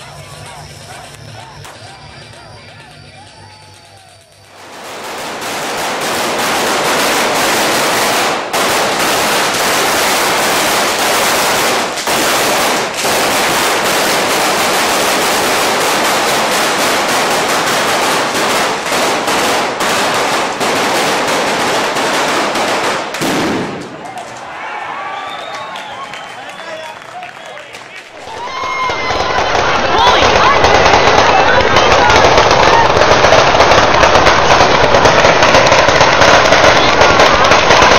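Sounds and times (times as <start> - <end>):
firecrackers crackling: 0.0 - 37.9.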